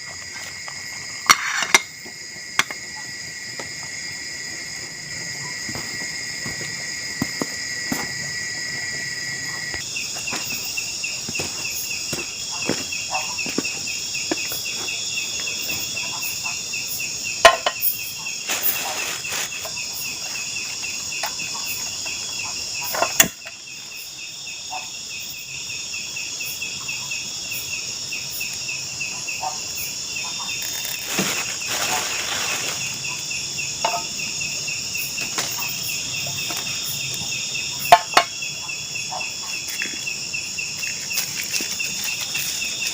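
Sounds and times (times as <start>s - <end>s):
insects high buzz: 0.0s - 42.9s
insects pulsing trill: 0.0s - 42.9s.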